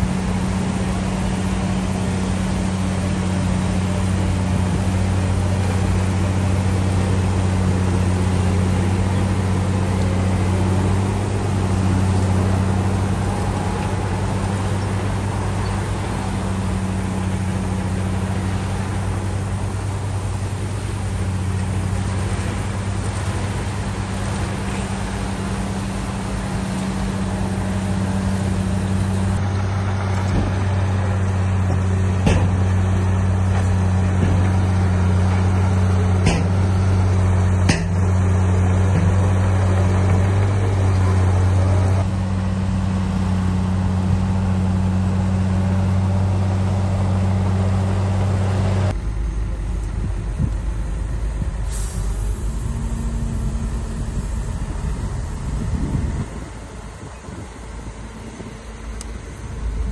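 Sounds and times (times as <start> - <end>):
diesel machinery engine drone: 0.0 - 59.9
rough low rumble: 0.0 - 59.9.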